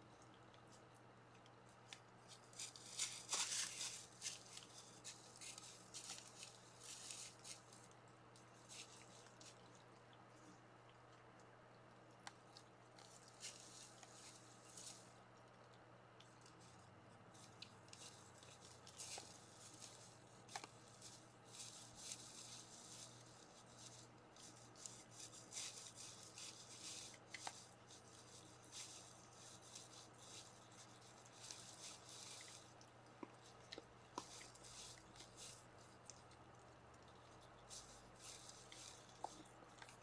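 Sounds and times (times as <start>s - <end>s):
deer chewing and rustling leaves: 0.0s - 40.0s.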